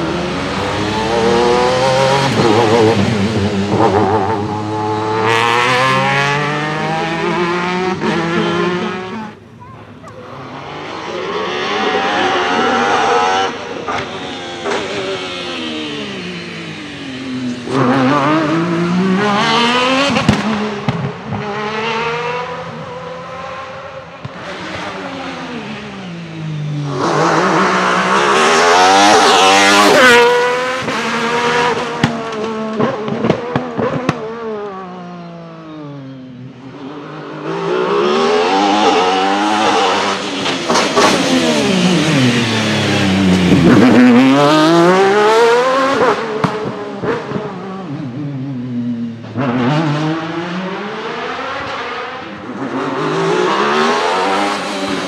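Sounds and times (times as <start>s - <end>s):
racing engine revving: 0.0s - 9.4s, 10.2s - 55.0s.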